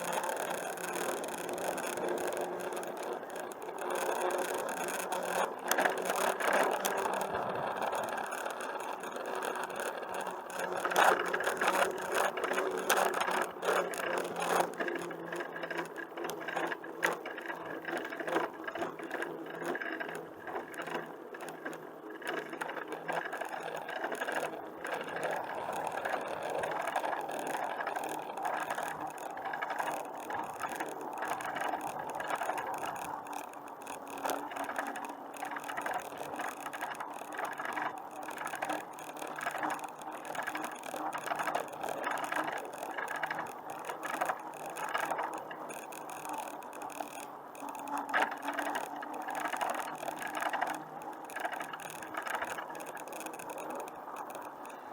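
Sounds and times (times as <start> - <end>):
bicycle rattling with fine clicking: 0.0 - 54.9.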